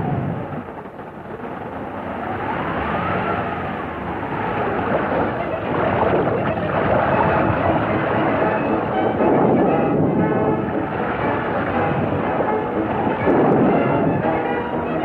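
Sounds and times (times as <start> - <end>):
cartoon wind and waves wash: 0.0 - 15.0
whistling wind: 0.0 - 15.0.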